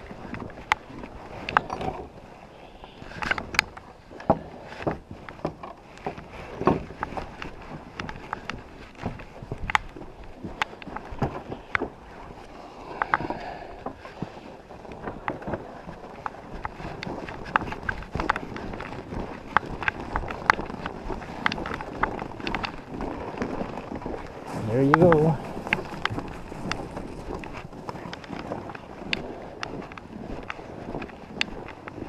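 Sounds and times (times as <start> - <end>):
sharp clicks and crunches: 0.0 - 32.0
wind buffeting microphone: 0.0 - 32.0.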